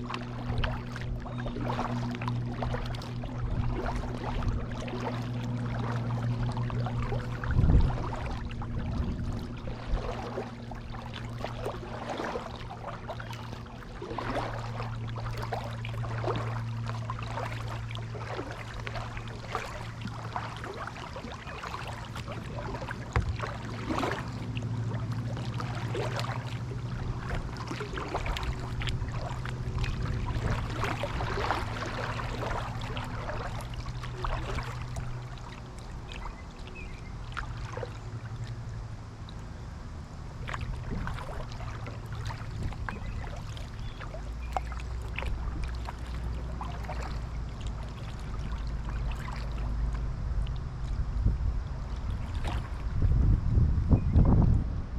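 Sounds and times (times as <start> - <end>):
water dripping off paddle: 0.0 - 38.6, 40.4 - 51.0
paddle splashing in water: 0.0 - 53.2
steady low hum: 0.0 - 54.9.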